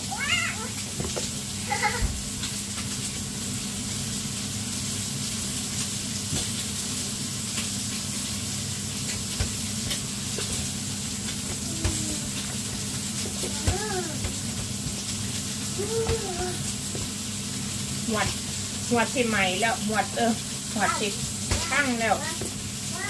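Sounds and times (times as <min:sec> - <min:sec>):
sizzling hiss of cooking: 0:00.0 - 0:23.0.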